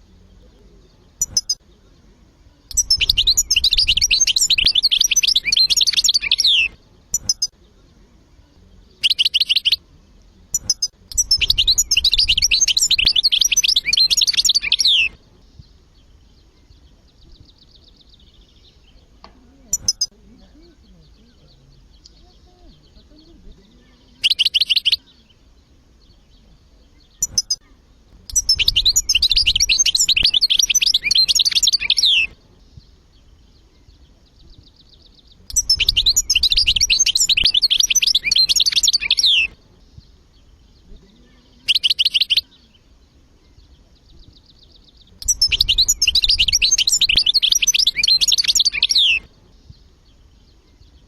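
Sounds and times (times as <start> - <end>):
goldfinch twittering song: 0.0 - 9.8, 10.5 - 51.0
faint rapid bird trill: 0.0 - 51.0
bird single chirps: 0.5 - 1.8, 2.7 - 7.7, 8.8 - 9.8, 10.5 - 25.4, 26.1 - 33.0, 33.6 - 51.0.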